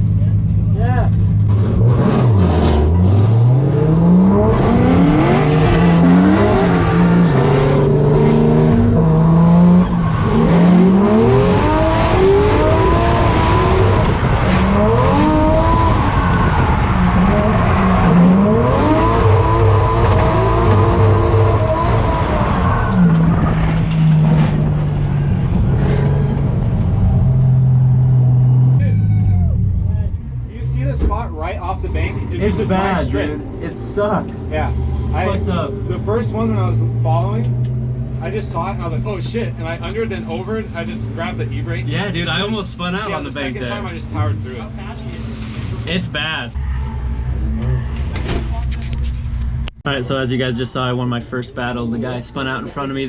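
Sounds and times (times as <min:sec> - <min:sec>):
car engine revving: 0:00.0 - 0:49.7.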